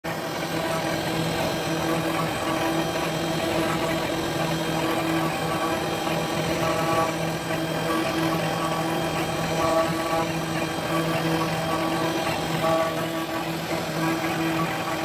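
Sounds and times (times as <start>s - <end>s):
bit cutting wood: 0.1s - 15.0s
router spindle whine: 0.1s - 15.0s.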